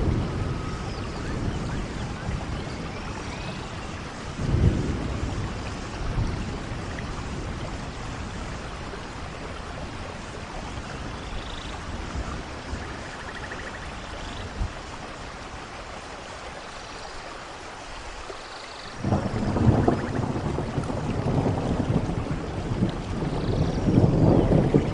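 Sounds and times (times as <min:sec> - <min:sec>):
low rumble of thunder: 0:00.0 - 0:15.9, 0:19.0 - 0:24.9
steady rain: 0:00.0 - 0:24.9.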